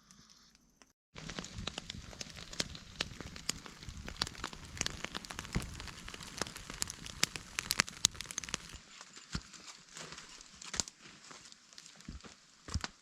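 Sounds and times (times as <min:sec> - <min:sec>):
campfire crackling and popping: 0:01.2 - 0:13.0.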